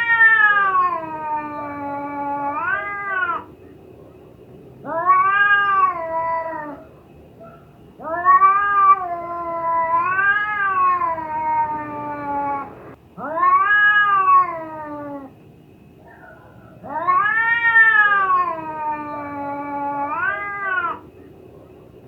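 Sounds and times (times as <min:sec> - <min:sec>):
cat yowling: 0:00.0 - 0:03.5, 0:04.8 - 0:15.4, 0:16.1 - 0:21.1.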